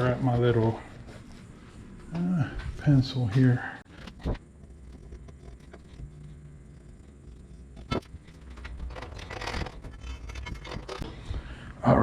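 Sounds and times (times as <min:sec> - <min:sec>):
light scraping and handling: 0:00.0 - 0:11.4
low steady hum: 0:00.0 - 0:12.0.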